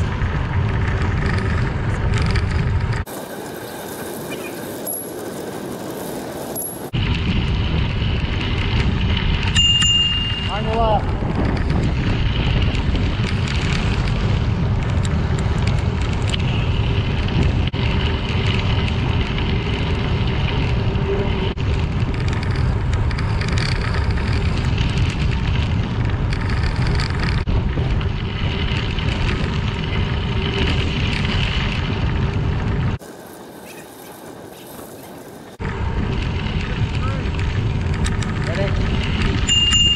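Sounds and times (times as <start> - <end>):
bicycle tyres rolling on gravel: 0.0 - 39.9
wind buffeting microphone: 0.0 - 39.9.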